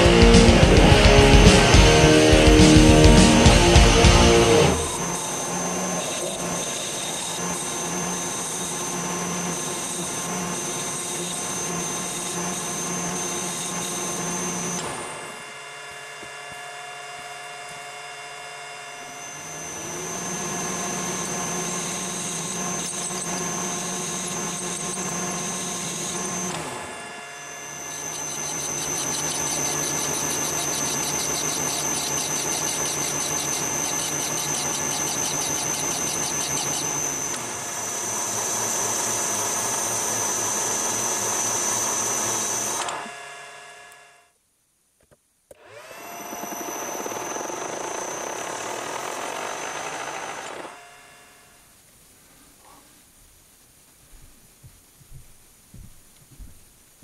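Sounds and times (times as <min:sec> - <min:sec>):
metal lathe whining: 0:00.0 - 0:44.3, 0:45.5 - 0:51.6.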